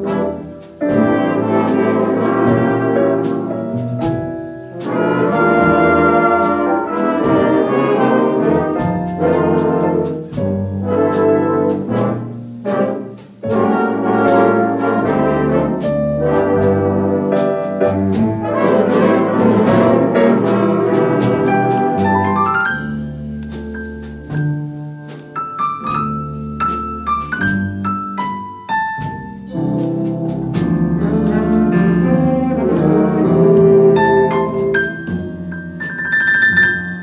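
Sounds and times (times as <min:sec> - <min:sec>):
jazz band playing: 0:00.0 - 0:37.0
percussion beat: 0:00.0 - 0:37.0.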